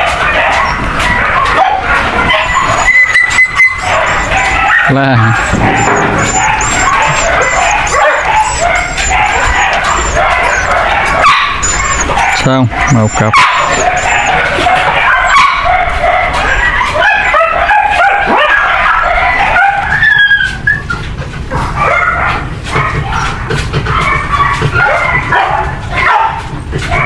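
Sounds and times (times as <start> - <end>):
dogs yapping and barking: 0.0 - 27.0
drawn-out dog call: 0.0 - 27.0.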